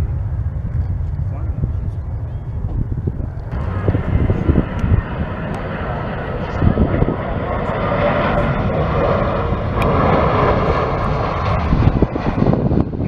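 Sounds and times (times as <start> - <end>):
jet engines of landing airliner: 0.0 - 13.0.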